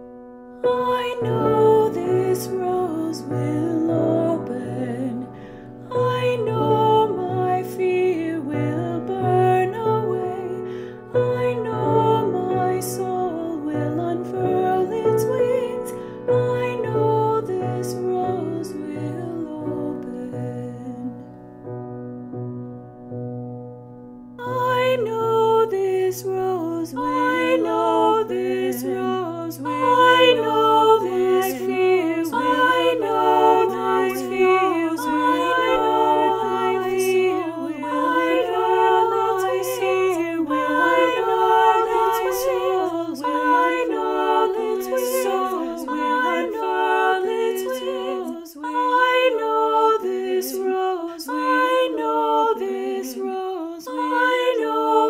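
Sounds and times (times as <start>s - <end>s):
a cappella group singing: 0.6s - 21.3s, 24.4s - 55.0s.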